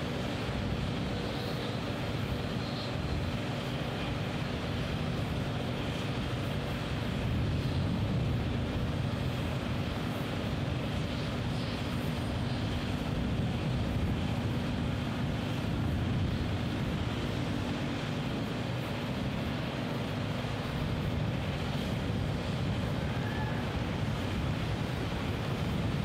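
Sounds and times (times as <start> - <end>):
heavy machinery engine drone: 0.0 - 26.0.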